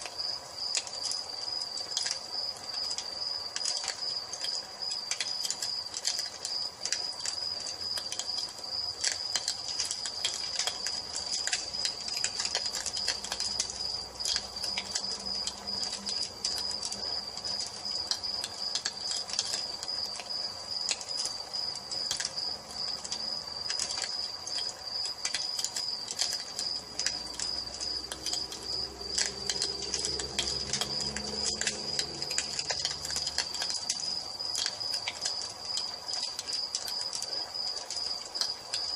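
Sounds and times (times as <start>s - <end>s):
crickets chirping: 0.0s - 38.9s
wood fire crackling and popping: 0.0s - 38.9s.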